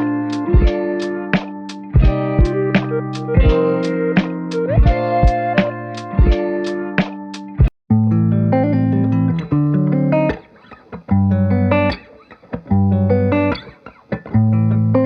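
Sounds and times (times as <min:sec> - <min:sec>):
plucked guitar: 0:00.0 - 0:15.0.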